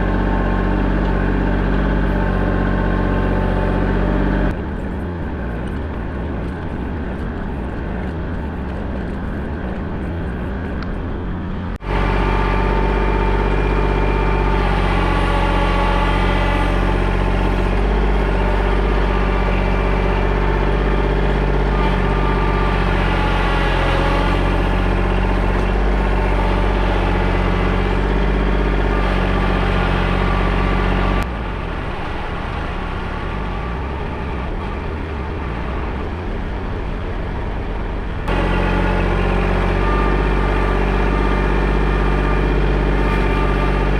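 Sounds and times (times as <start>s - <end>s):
digging machine engine running: 0.0s - 43.9s.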